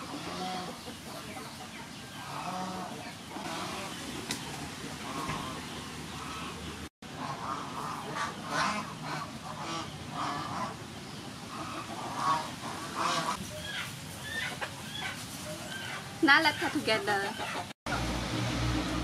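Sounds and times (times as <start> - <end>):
poultry honking calls: 0.0 - 1.5, 2.1 - 10.9, 11.5 - 17.7.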